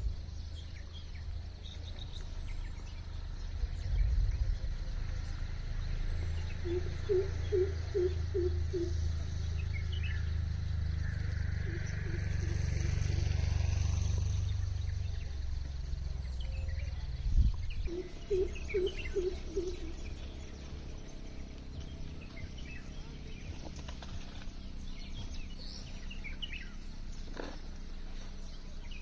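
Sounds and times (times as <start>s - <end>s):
low rumble: 0.0s - 29.0s
small birds chirping: 0.0s - 29.0s.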